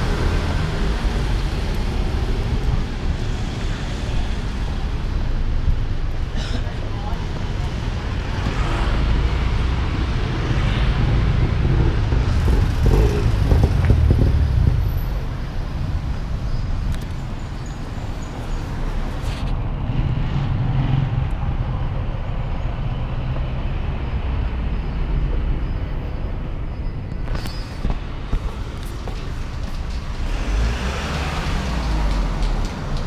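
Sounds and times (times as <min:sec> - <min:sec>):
hum of traffic: 0:00.0 - 0:33.0.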